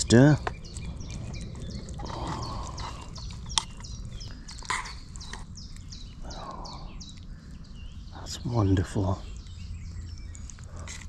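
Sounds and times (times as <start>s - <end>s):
low steady rumble: 0.0s - 11.0s
small birds chirping: 0.0s - 11.0s.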